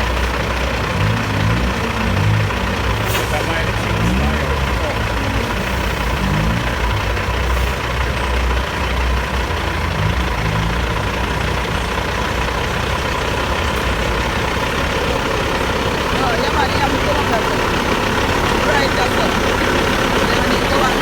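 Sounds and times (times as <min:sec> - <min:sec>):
bulldozer diesel engines rumbling: 0:00.0 - 0:21.0.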